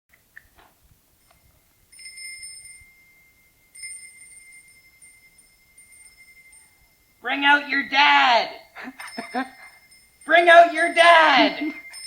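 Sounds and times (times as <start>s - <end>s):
small metal bell ringing: 1.1s - 7.9s, 8.6s - 12.0s.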